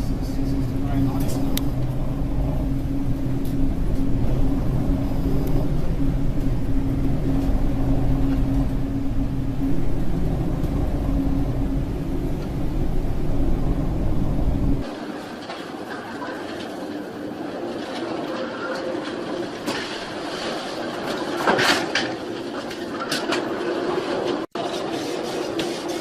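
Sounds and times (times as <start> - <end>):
steady engine drone: 0.0 - 25.6.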